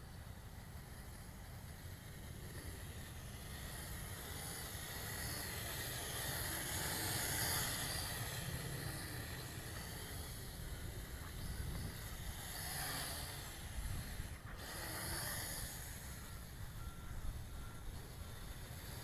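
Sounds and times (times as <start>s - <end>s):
quadcopter propellers whining: 0.0s - 19.0s.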